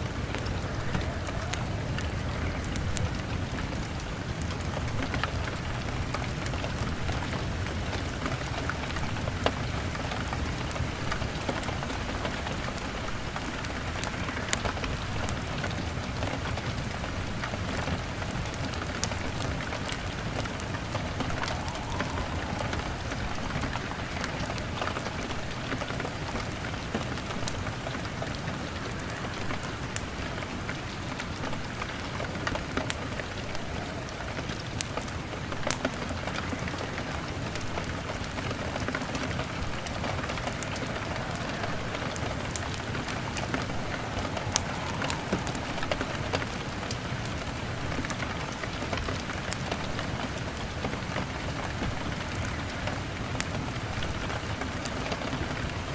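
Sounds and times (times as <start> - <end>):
rain on a window: 0.0 - 55.9
wood fire crackling: 0.0 - 55.9.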